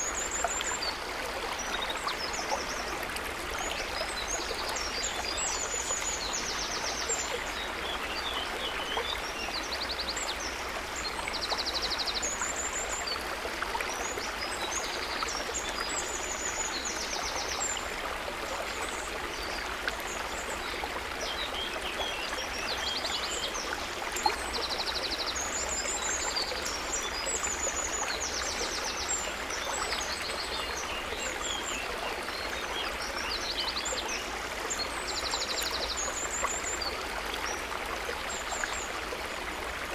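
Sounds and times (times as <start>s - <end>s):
river water over stones: 0.0s - 39.9s.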